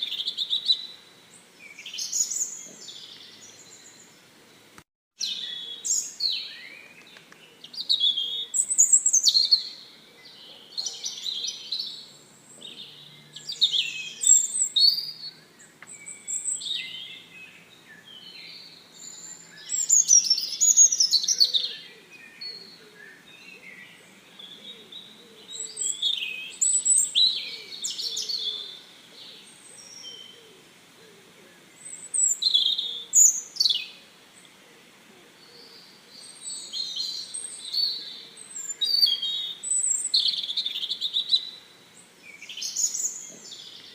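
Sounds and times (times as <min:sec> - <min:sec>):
songbirds chirping and warbling: 0:00.0 - 0:43.9.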